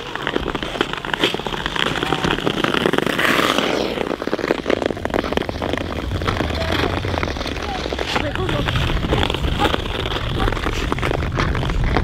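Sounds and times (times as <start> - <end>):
ice skates scraping on ice: 0.0 - 12.0.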